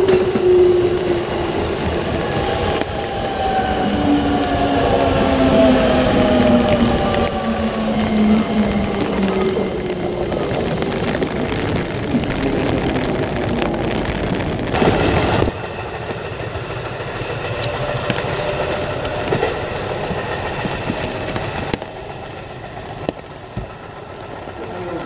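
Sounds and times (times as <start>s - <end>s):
electric train rumbling on track: 0.0s - 25.0s.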